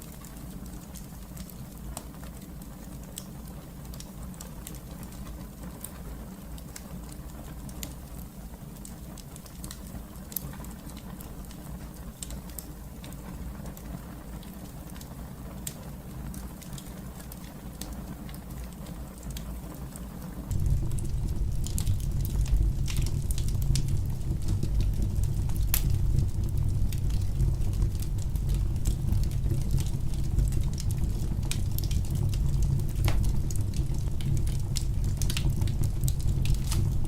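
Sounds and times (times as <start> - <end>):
fire crackling and popping: 0.0 - 37.0
low rumble of fire: 0.0 - 37.0.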